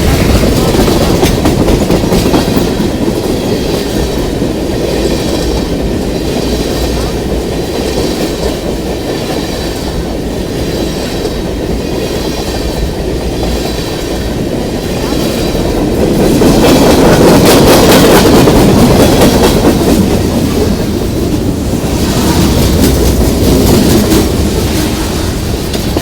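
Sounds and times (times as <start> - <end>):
clickety-clack over rail joints: 0.0 - 26.0
train wheels rumbling on rails: 0.0 - 26.0.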